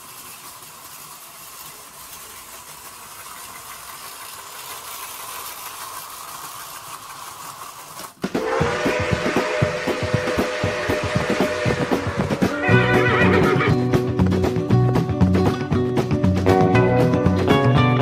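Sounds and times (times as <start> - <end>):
clockwork toy train whirring: 0.0 - 15.6.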